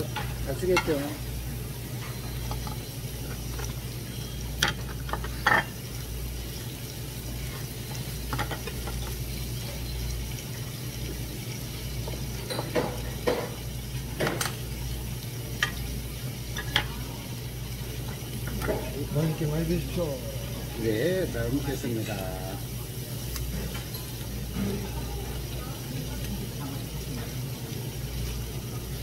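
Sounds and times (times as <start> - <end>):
food sizzling on a griddle: 0.0 - 29.0.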